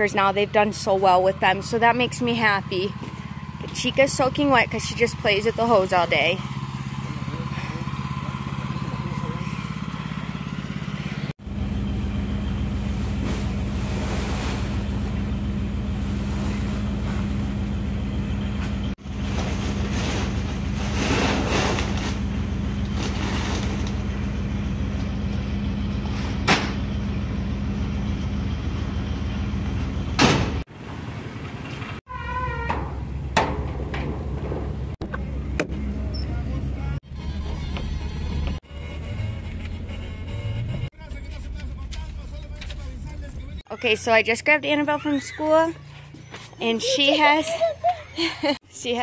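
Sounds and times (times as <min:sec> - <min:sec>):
truck engine and road noise: 0:00.0 - 0:49.0.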